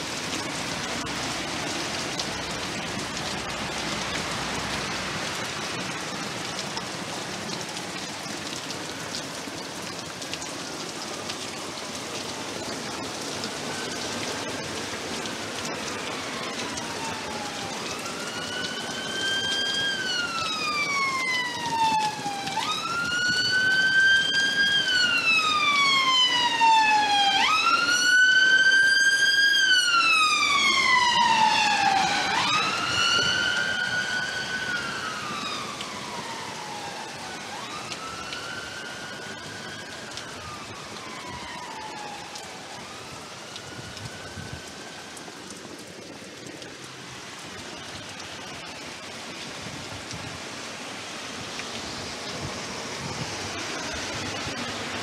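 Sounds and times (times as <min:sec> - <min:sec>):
ambulance siren wailing: 0:00.0 - 0:50.0, 0:50.8 - 0:55.0
heavy rain pouring: 0:00.0 - 0:55.0.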